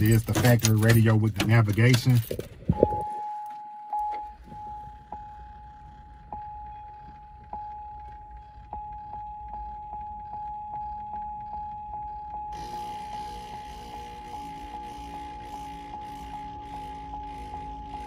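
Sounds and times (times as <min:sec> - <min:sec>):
car radio sound: 0:00.0 - 0:18.0
steady high tone: 0:02.7 - 0:18.0.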